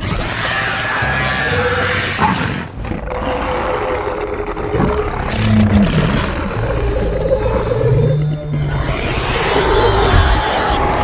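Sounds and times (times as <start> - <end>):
monster roars and shrieks: 0.0 - 11.0.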